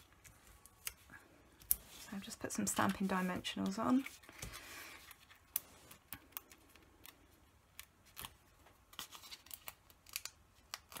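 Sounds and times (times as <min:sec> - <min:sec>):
card clicks and crinkles: 0:00.0 - 0:11.0.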